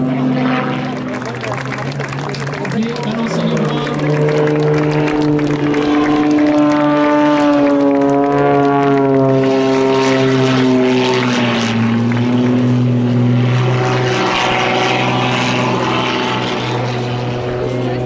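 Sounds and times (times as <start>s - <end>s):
plane engine droning: 0.0s - 18.0s
rasping propeller noise: 0.0s - 18.0s.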